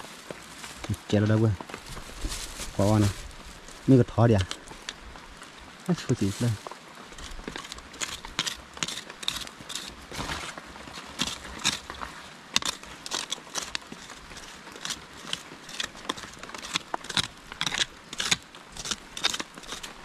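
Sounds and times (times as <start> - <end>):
stick scraping stony soil: 0.0 - 20.0.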